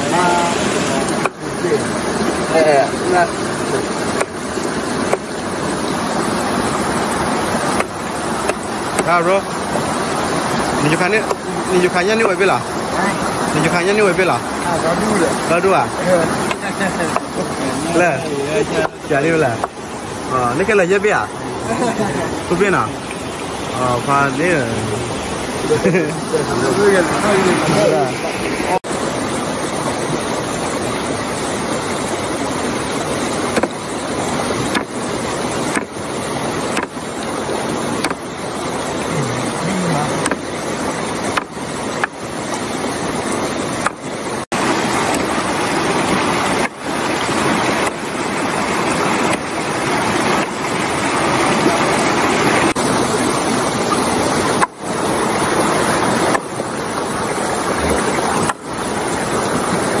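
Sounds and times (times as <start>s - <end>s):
water rushing over rocks: 0.0s - 60.0s.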